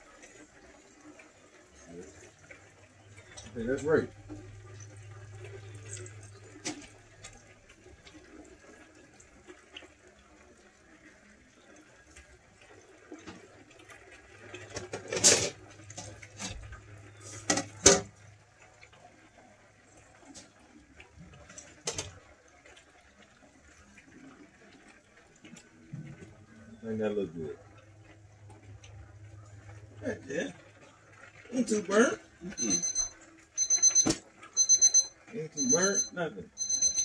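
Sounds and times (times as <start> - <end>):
oil bubbling and sizzling: 0.0 - 36.7.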